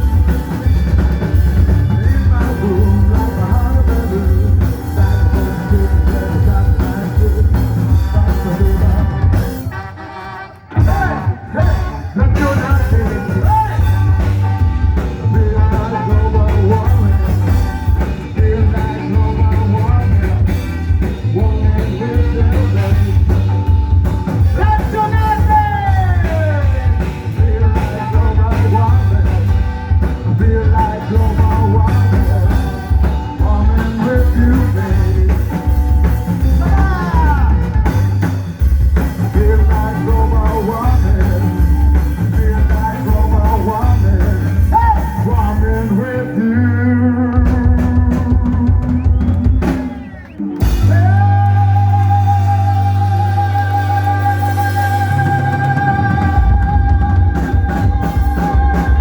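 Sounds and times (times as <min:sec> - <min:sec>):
drum kit: 0:00.0 - 0:59.0
heavy bass: 0:00.0 - 0:59.0
person singing: 0:00.0 - 0:59.0
rock band playing: 0:00.0 - 0:59.0.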